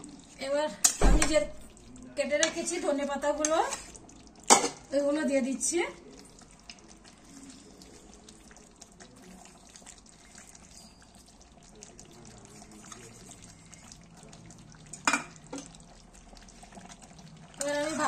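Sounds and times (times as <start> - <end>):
curry bubbling in a pan: 0.0 - 18.0.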